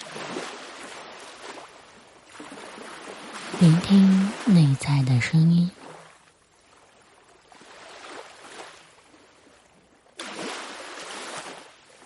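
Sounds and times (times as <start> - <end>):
ocean waves washing ashore: 0.0 - 12.0.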